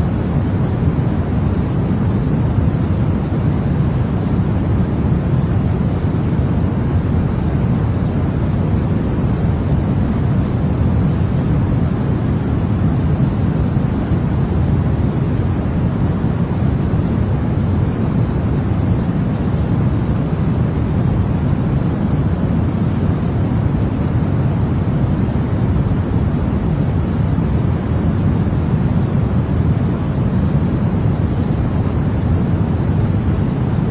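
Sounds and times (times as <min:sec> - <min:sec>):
low white noise hiss: 0:00.0 - 0:33.9.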